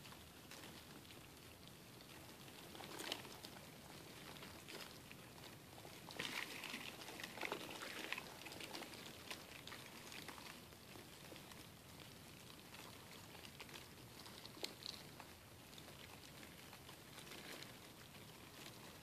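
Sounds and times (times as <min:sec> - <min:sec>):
roaches ticking and rustling: 0:00.0 - 0:19.0.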